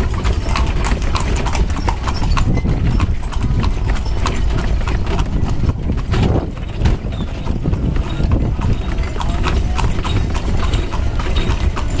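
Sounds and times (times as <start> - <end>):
carriage rumbling: 0.0 - 12.0
horse hooves on pavement: 0.0 - 12.0.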